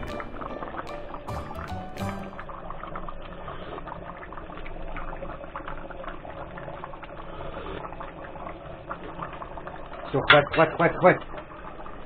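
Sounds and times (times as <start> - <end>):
soup bubbling in a pot: 0.0 - 12.0.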